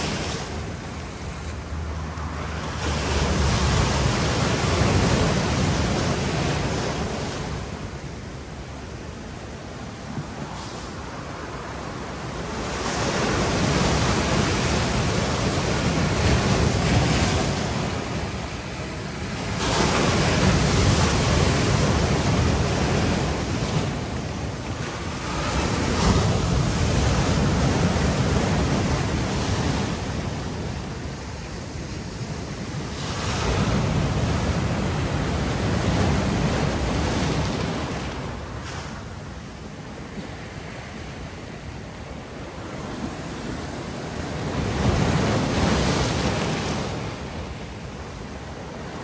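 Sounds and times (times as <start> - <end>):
ocean waves breaking on rocks: 0.0 - 49.0.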